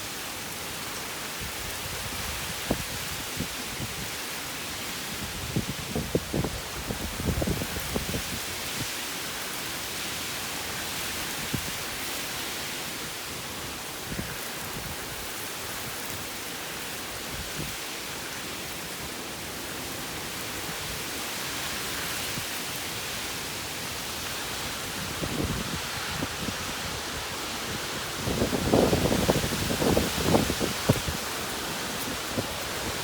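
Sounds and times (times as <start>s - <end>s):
heavy rain: 0.0s - 33.0s
wind: 0.0s - 33.0s.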